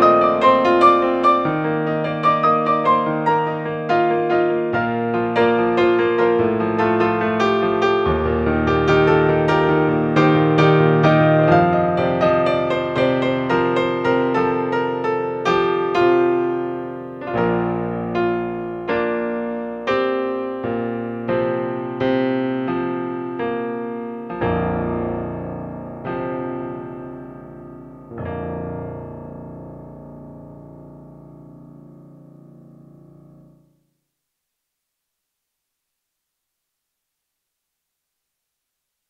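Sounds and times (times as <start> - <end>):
digital piano chords: 0.0 - 33.8.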